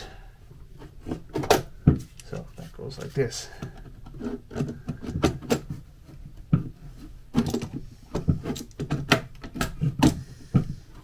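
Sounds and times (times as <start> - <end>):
clicks and knocks of hard parts: 0.8 - 2.4, 3.0 - 11.0.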